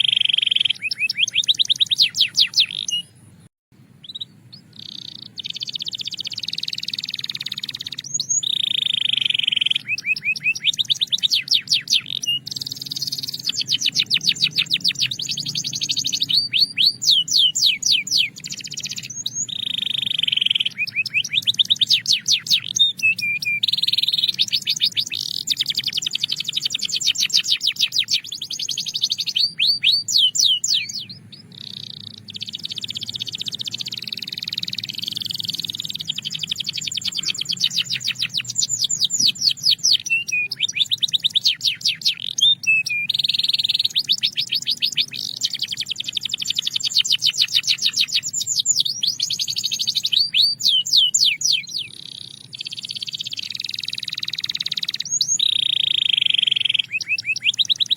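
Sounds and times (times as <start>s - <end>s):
canary singing: 0.0s - 57.9s.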